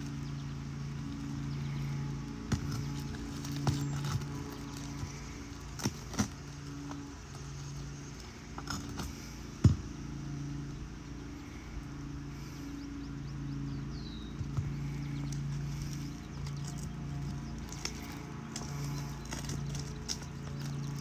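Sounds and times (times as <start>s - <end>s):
pulsing low hum: 0.0s - 21.0s.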